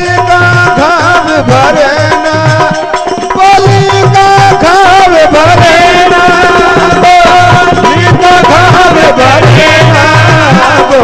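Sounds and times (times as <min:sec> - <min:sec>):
hand drum rhythm: 0:00.0 - 0:11.0
ornamented melody line: 0:00.0 - 0:11.0.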